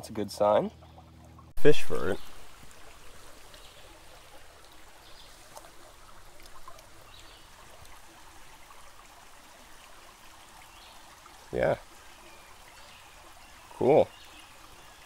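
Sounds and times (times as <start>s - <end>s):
creek water trickling: 0.0s - 15.0s.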